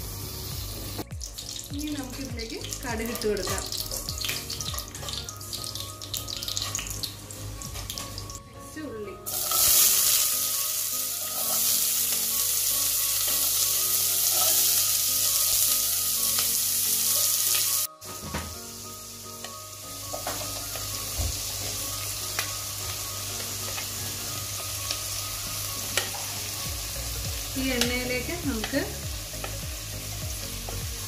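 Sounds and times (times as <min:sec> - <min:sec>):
onions sizzling in oil: 0:00.0 - 0:08.4, 0:09.3 - 0:31.0.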